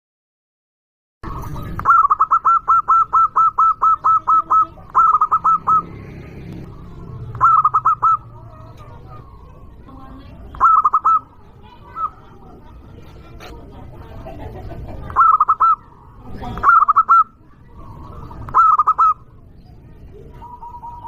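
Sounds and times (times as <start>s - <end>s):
dove cooing: 1.3s - 21.0s.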